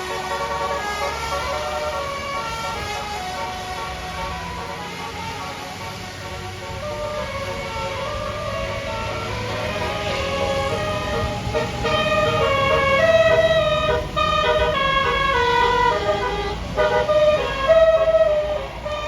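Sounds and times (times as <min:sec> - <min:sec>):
bus engine rumble: 0:00.0 - 0:19.0
multi-trumpet bus horn tune: 0:00.0 - 0:19.0.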